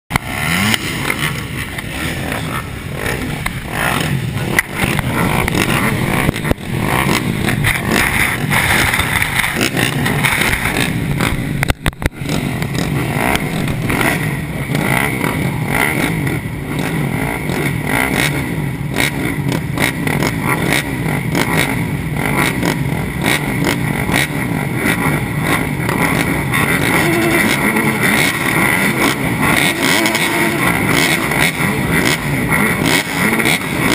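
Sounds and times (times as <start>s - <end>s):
motocross bikes idling and revving: 0.1s - 33.9s.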